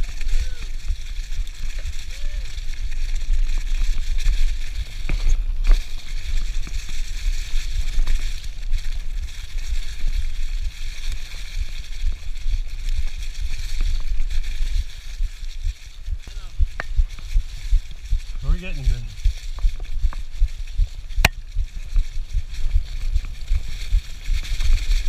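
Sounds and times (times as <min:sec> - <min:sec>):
bike clicks and rattles: 0:00.0 - 0:25.0
low wind rumble on camera: 0:00.0 - 0:25.0
tyres hissing through leaves: 0:00.0 - 0:25.0.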